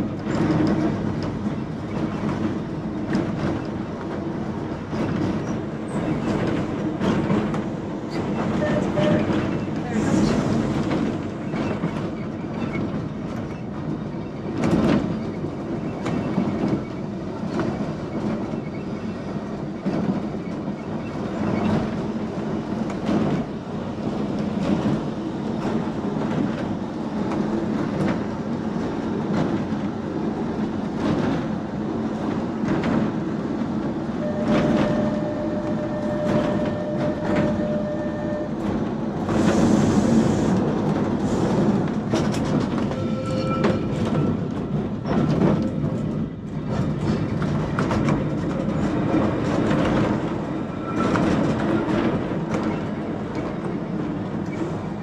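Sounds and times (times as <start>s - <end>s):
tram rumbling on track: 0.0s - 55.0s.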